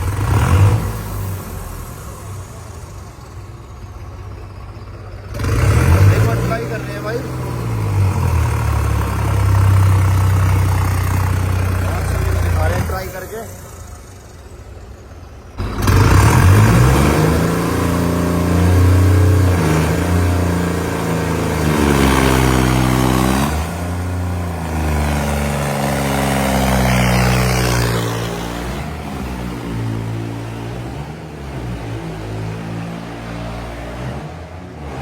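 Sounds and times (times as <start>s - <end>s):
tractor diesel engine revving: 0.0s - 35.0s.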